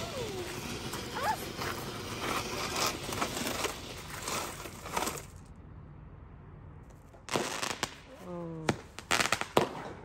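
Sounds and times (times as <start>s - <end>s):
firework fountain hissing crackle: 0.0s - 5.5s, 7.1s - 10.0s.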